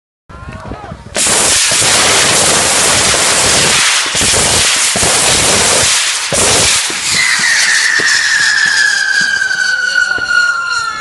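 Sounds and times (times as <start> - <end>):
fireworks crackling: 1.2 - 11.0
whistling firework: 1.2 - 11.0.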